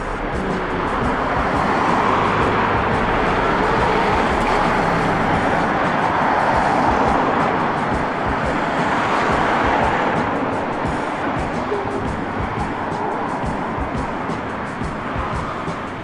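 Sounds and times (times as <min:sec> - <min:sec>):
cars and truck driving past: 0:00.0 - 0:16.0.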